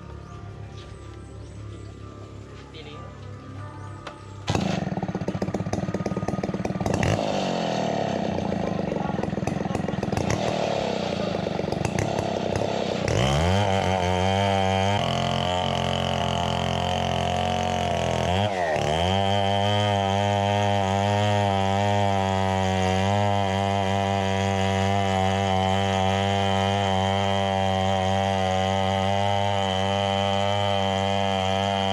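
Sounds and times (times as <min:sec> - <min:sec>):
chainsaw cutting wood: 0:04.0 - 0:31.9.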